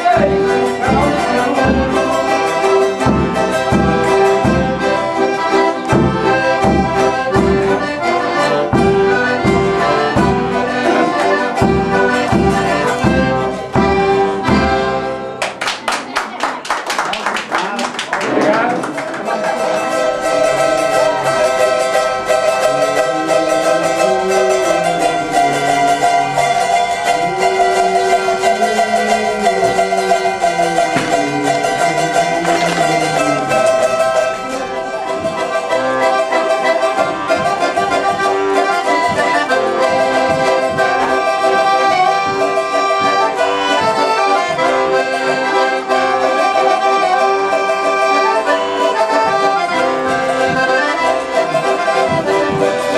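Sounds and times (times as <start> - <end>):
accordion playing folk tune: 0.0 - 16.6, 17.4 - 52.9.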